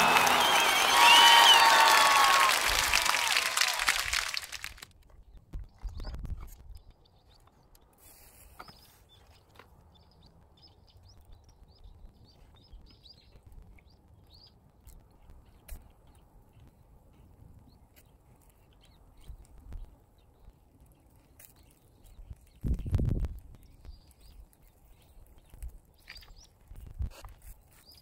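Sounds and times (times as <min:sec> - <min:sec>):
small birds chirping: 0:05.1 - 0:28.0.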